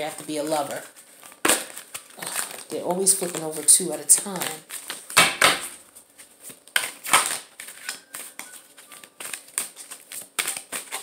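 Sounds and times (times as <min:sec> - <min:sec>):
cards being shuffled: 0:00.1 - 0:11.0.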